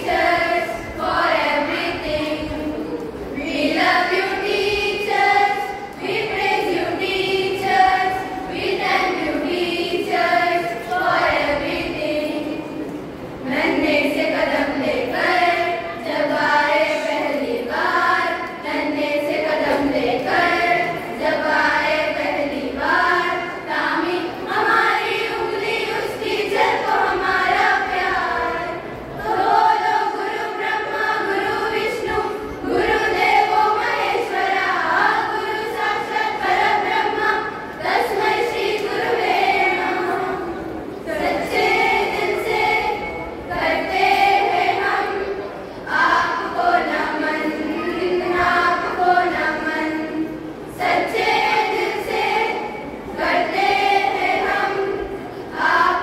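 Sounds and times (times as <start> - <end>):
girls choir singing: 0.0 - 56.0.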